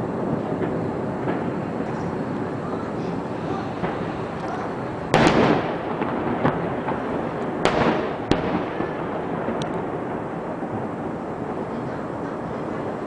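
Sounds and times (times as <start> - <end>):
firework booms: 0.0 - 13.0
sharp firework cracks: 0.0 - 13.0
steady background noise: 0.0 - 13.0.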